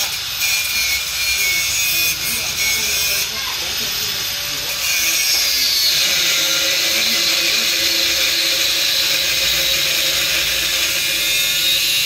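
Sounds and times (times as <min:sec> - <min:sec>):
power tool high hissing whine: 0:00.0 - 0:12.0.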